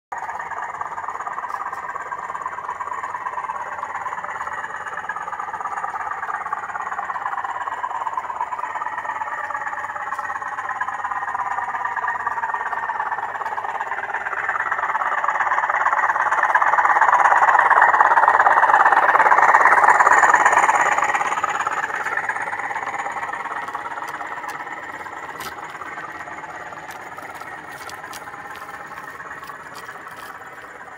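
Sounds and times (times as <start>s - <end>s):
diesel engine sound from small speaker: 0.0s - 30.9s.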